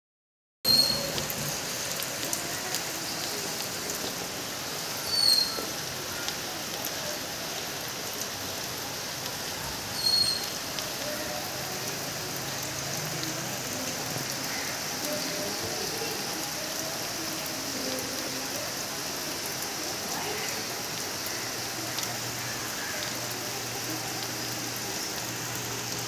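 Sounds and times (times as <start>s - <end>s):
steady rain pattering: 0.7s - 26.0s.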